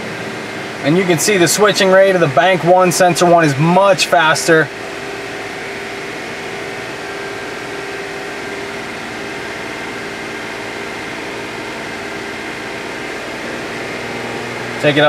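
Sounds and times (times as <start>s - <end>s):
car engine running at raised speed: 0.0s - 15.0s.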